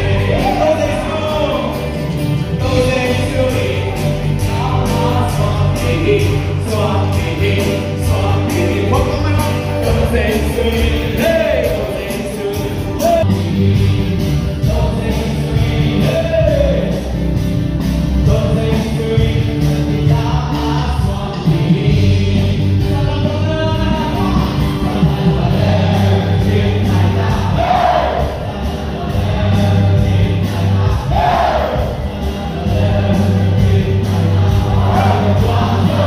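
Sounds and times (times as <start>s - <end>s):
voices singing together: 0.0s - 17.2s, 18.2s - 36.0s
band with bass and drums: 0.0s - 36.0s.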